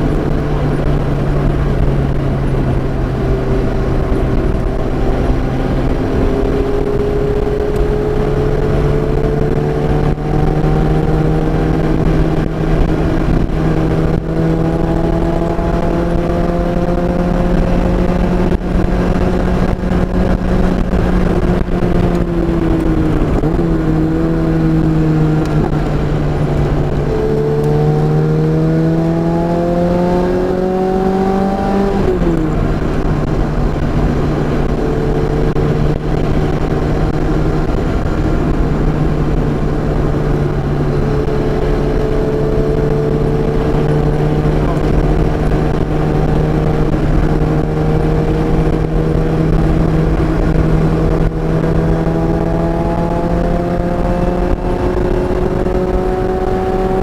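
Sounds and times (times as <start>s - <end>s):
car engine revving under load: 0.0s - 57.0s
wind and road noise: 0.0s - 57.0s.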